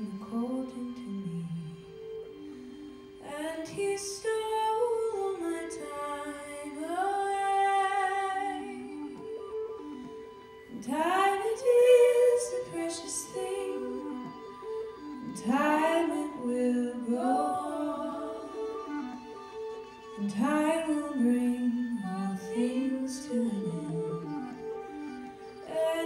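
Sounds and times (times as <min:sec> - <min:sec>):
women singing in harmony: 0:00.0 - 0:26.0.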